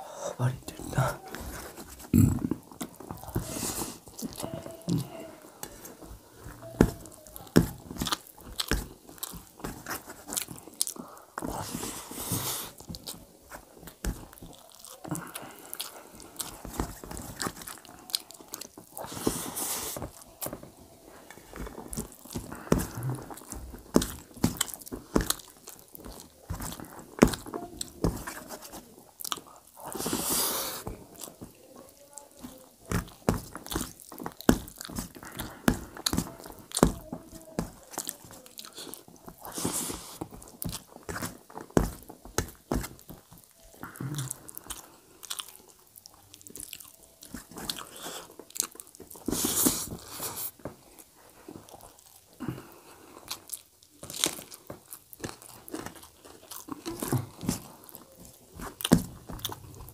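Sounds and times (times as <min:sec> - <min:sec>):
close chewing and mouth smacks: 0:00.6 - 0:59.9.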